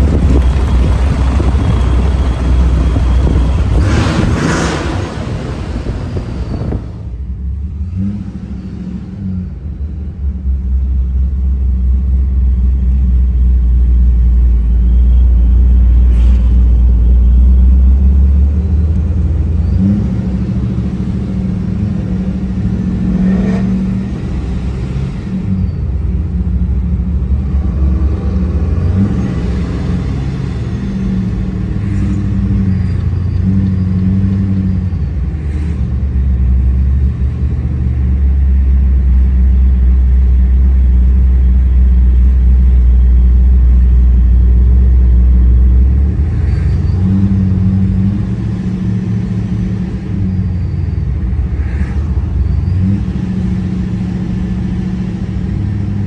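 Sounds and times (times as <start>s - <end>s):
low exhaust rumble of cars: 0.0s - 56.0s.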